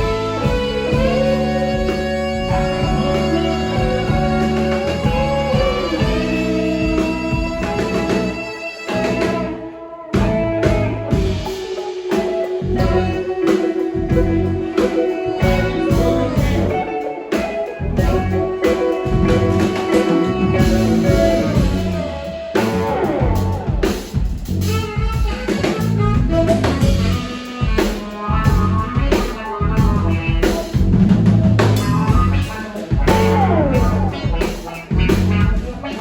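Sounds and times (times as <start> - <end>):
steady drum beat: 0.0 - 9.6, 10.2 - 36.0
held guitar notes: 0.0 - 36.0
live band playing: 0.0 - 36.0.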